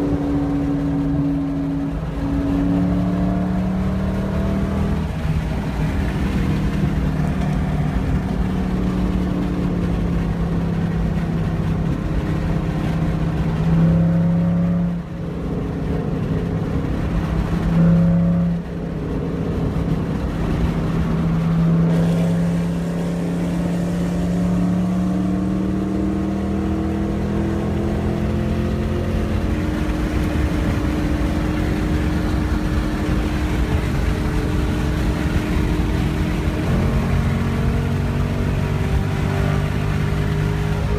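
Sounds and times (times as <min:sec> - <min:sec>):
car exhaust rumbling: 0:00.0 - 0:40.9
engine revving: 0:00.0 - 0:40.9.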